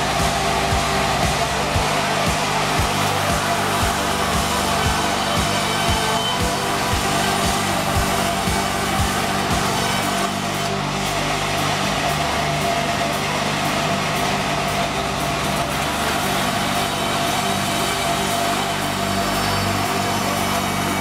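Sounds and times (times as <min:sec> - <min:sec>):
band saw cutting wood: 0:00.0 - 0:21.0.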